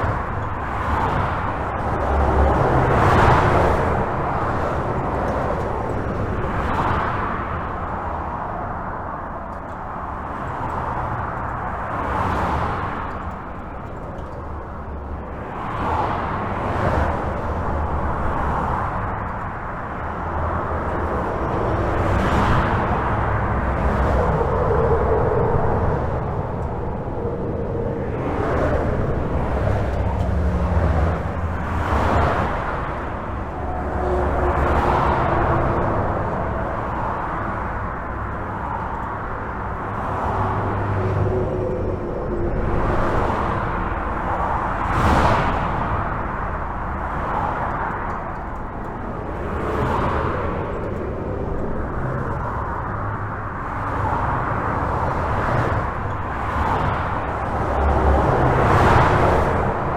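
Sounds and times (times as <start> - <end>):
highway traffic rumble: 0.0 - 59.9
vehicles passing by: 0.0 - 59.9.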